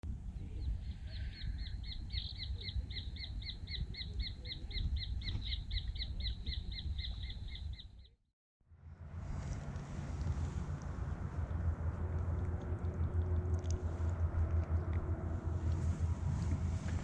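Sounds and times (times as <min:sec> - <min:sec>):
low wind rumble: 0:00.0 - 0:08.0, 0:08.7 - 0:17.0.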